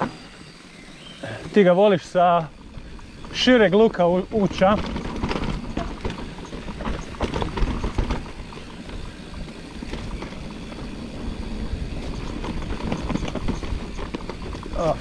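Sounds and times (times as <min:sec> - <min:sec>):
bike tyres rumbling on dirt: 0:00.0 - 0:15.0
bike knocks and rattles: 0:02.6 - 0:15.0.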